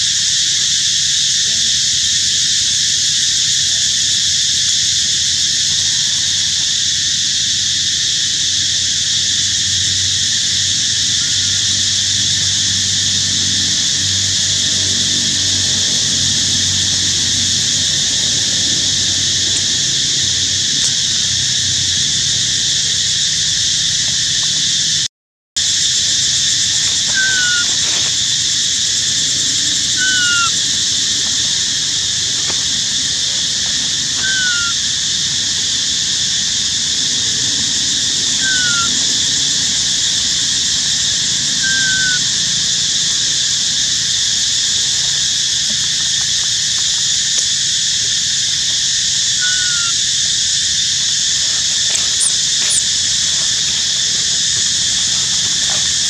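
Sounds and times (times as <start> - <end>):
forest insect chorus drone: 0.0 - 56.0.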